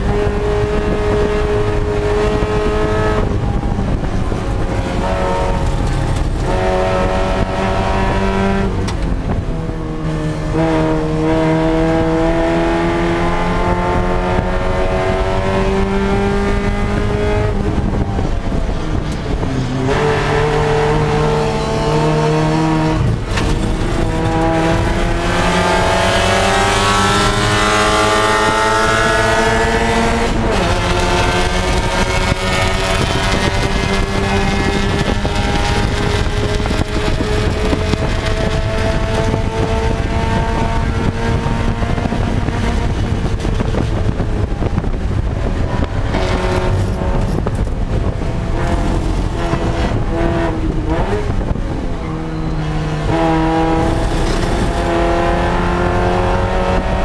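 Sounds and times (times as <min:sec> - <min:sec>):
race car engine under load: 0:00.0 - 0:57.0
wind and road noise: 0:00.0 - 0:57.0.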